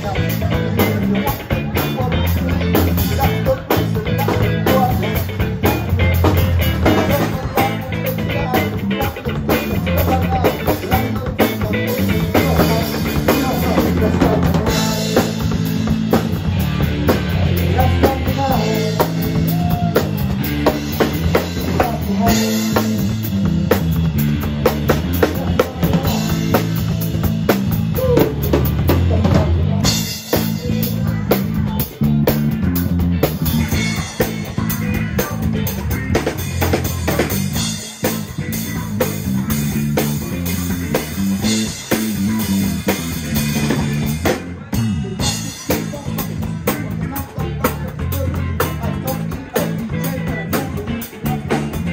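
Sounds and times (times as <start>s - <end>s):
drums keeping a steady beat: 0.0s - 51.9s
electric bass line: 0.0s - 51.9s.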